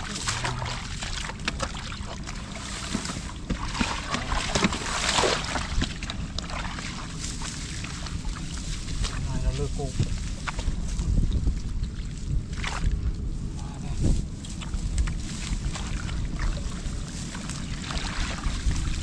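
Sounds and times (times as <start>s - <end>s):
splashing in shallow water: 0.0s - 13.2s, 14.3s - 19.0s.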